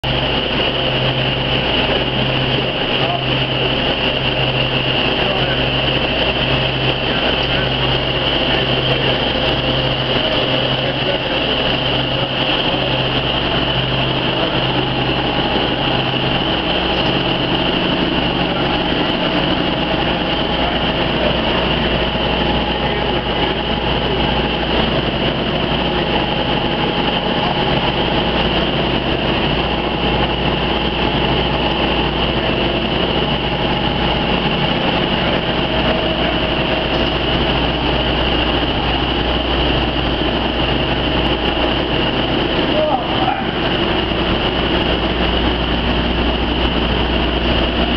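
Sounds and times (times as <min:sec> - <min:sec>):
high-pitched whine: 0:00.0 - 0:47.9
machine hum: 0:00.0 - 0:47.9.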